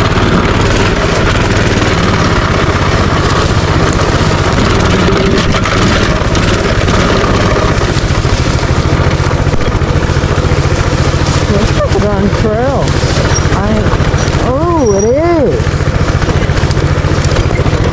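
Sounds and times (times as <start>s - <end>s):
small engine running: 0.0s - 17.9s.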